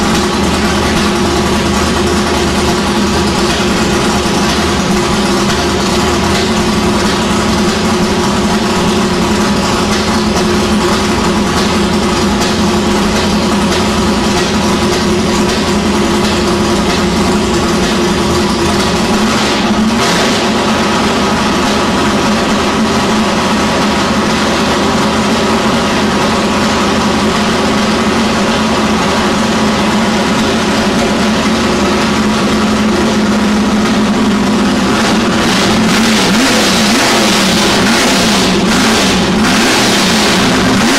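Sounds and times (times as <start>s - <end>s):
engine idling loudly: 0.0s - 40.9s.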